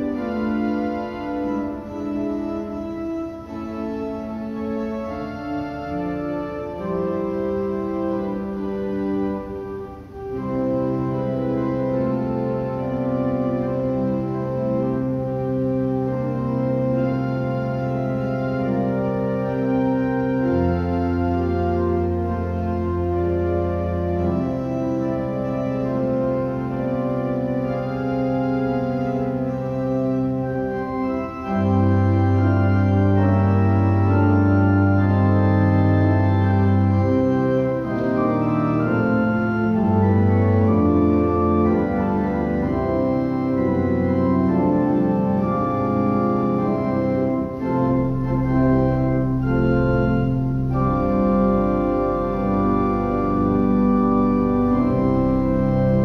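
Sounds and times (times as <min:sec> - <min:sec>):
organ playing held chords: 0:00.0 - 0:56.0.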